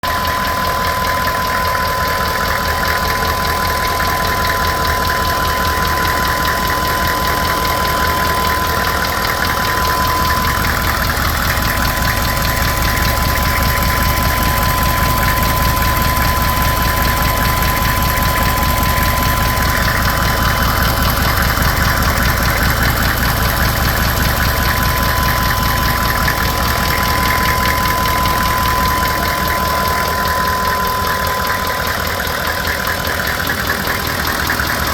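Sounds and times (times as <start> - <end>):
engine knocking: 0.0 - 34.9
steady high tone: 0.0 - 34.9.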